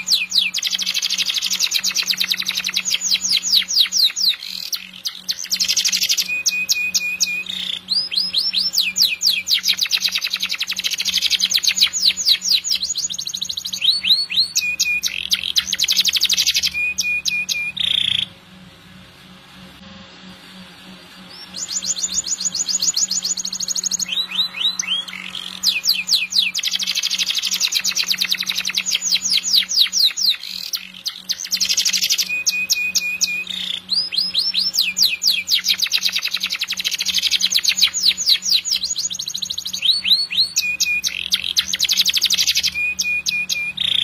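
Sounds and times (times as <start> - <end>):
canary singing trills: 0.0 - 18.4, 21.0 - 44.0
faint steady hum: 0.0 - 44.0.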